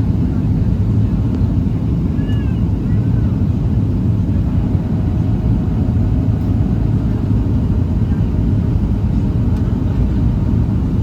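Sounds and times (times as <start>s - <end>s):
aircraft engine rumble: 0.0s - 11.0s.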